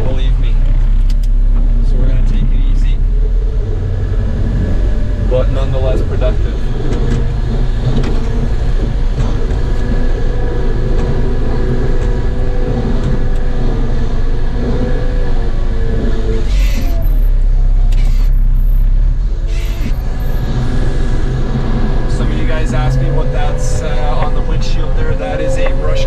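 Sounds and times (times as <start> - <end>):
diesel engine drone: 0.0 - 26.0.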